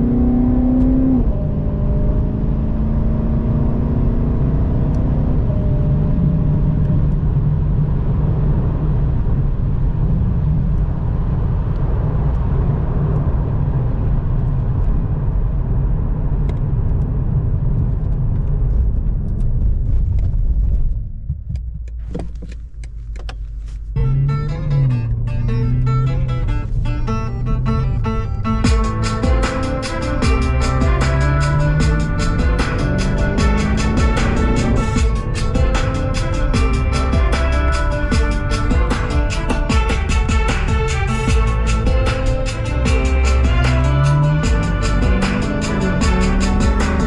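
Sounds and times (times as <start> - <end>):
car engine rumbling: 0.0 - 47.0
road noise: 0.0 - 47.0.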